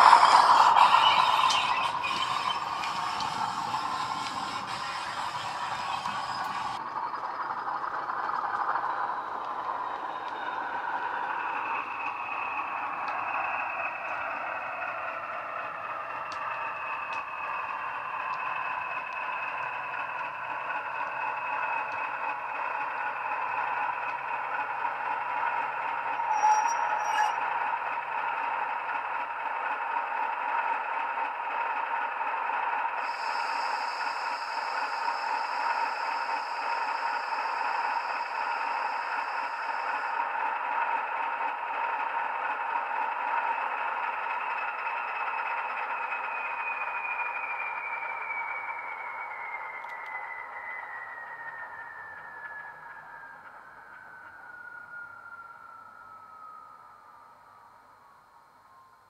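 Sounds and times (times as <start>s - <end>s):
high steady whistle: 0.0s - 27.8s, 32.4s - 59.0s
model train rattling on track: 0.0s - 55.0s
diesel engine through small speakers: 0.0s - 59.0s.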